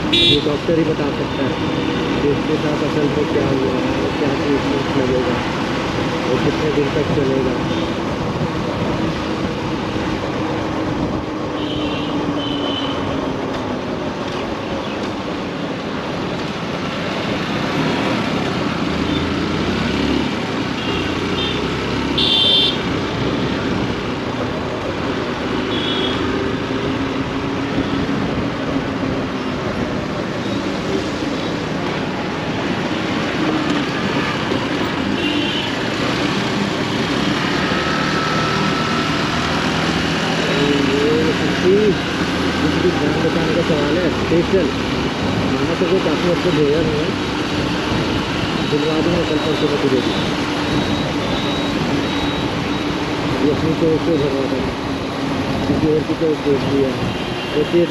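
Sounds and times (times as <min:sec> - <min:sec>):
road and wind noise: 0:00.0 - 0:57.9.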